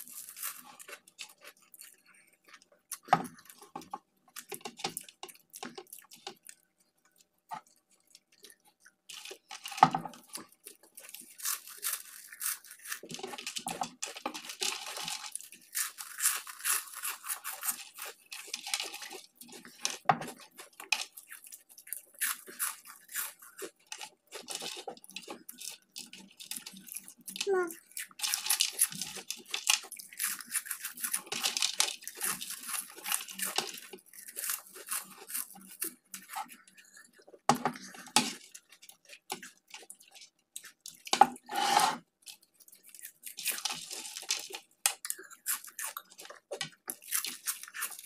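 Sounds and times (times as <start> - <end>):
chewing and crunching food: 0.0 - 48.0.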